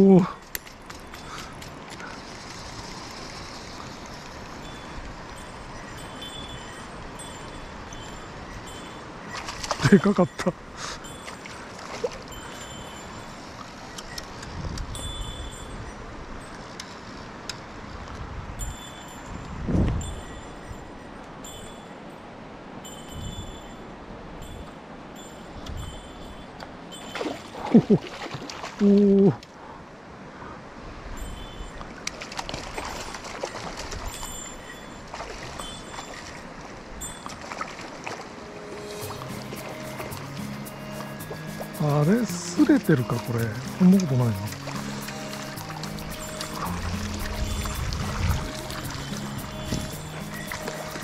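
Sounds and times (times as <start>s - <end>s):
stream water flowing: 0.0s - 51.0s.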